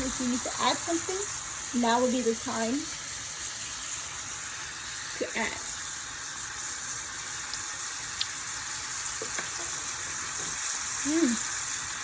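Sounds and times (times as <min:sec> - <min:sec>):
fish sizzling in a pan: 0:00.0 - 0:12.0.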